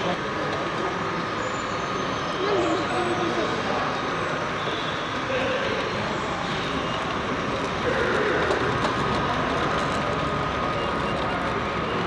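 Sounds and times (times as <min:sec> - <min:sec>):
busy hall din: 0:00.0 - 0:12.0
model train running: 0:00.0 - 0:12.0.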